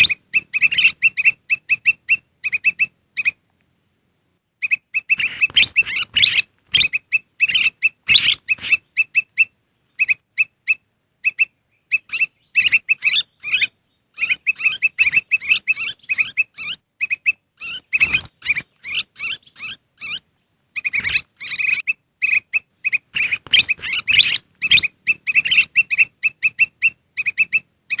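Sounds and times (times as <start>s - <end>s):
bulbul chirping: 0.0s - 3.4s, 4.6s - 28.0s.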